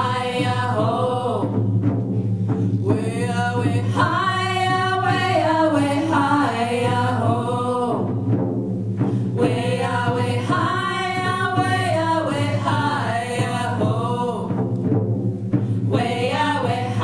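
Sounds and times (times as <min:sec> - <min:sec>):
women singing together: 0:00.0 - 0:01.7, 0:02.8 - 0:08.4, 0:09.2 - 0:14.7, 0:15.8 - 0:17.0
frame drums beating: 0:00.0 - 0:17.0.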